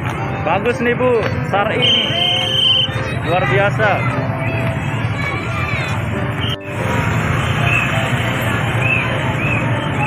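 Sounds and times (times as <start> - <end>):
busy street noise: 0.0 - 10.0
music: 0.0 - 10.0.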